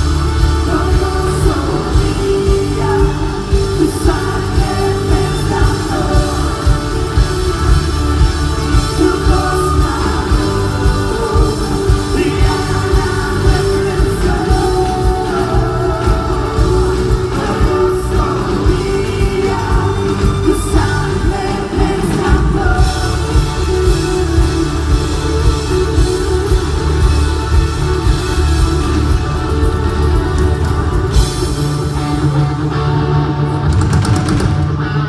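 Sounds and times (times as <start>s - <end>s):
person singing: 0.0s - 35.0s
rock band playing: 0.0s - 35.0s.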